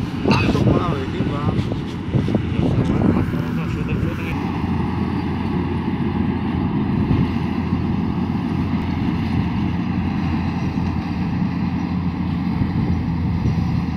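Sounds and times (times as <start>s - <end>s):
diesel engine droning: 0.0s - 13.9s.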